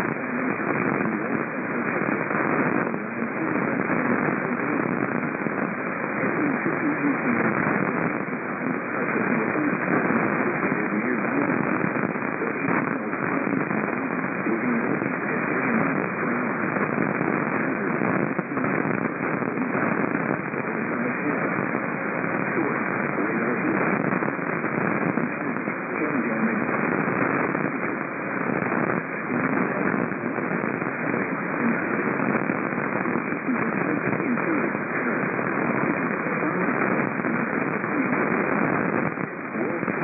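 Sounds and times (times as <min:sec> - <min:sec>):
faint voice on radio: 0:00.0 - 0:40.0
radio static hiss: 0:00.0 - 0:40.0.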